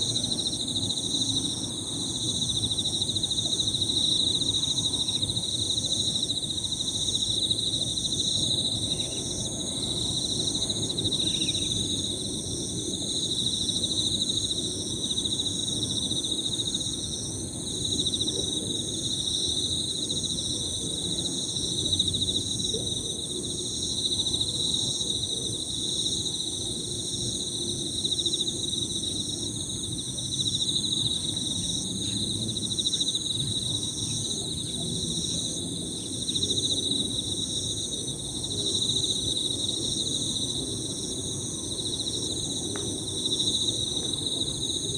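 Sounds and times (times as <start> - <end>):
crickets trilling: 0.0 - 44.9.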